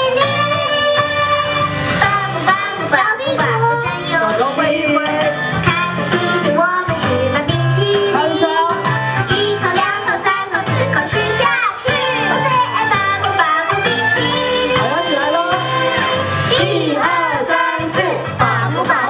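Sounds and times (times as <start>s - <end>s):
backing track with steady beat: 0.0s - 19.0s
person singing: 0.0s - 19.0s.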